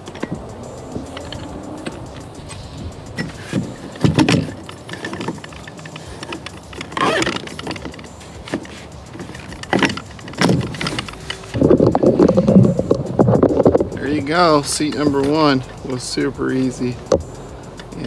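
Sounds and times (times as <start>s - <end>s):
metal parts knocking and rattling: 0.0s - 18.0s.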